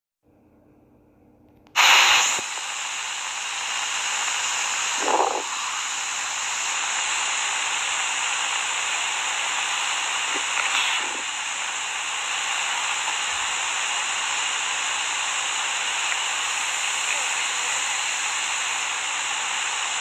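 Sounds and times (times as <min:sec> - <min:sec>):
loud steady hiss: 0:01.8 - 0:20.0.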